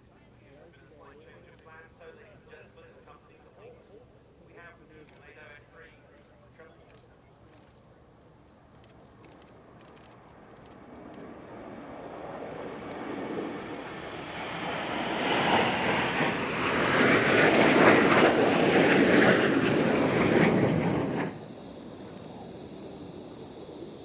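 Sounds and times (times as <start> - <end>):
aircraft engines rushing: 0.0 - 24.0.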